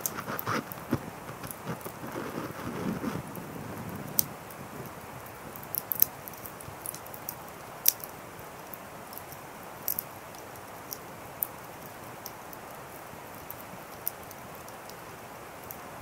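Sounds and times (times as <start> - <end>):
fire crackling and popping: 0.0 - 16.0
fire hissing: 0.0 - 16.0.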